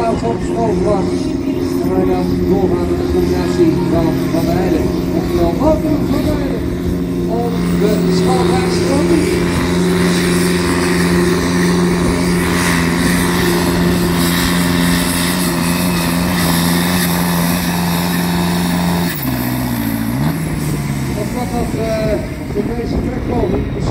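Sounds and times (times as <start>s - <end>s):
tractor engine revving under load: 0.0s - 23.9s.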